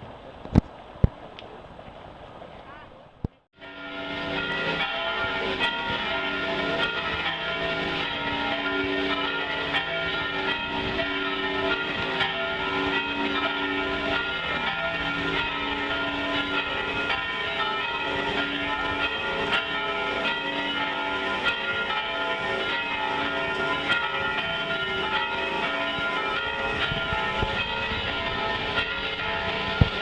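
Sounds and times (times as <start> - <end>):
church bells pealing: 3.6 - 30.0.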